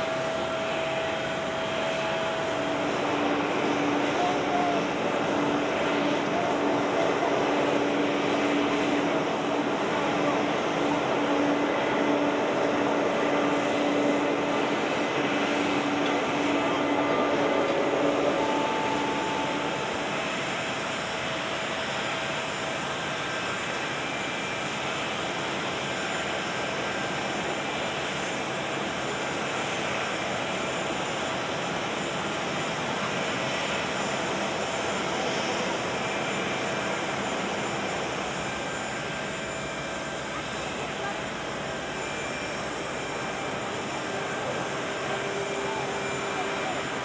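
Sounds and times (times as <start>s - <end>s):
high jet whine: 0.0s - 47.0s
jet aircraft roar: 0.0s - 47.0s.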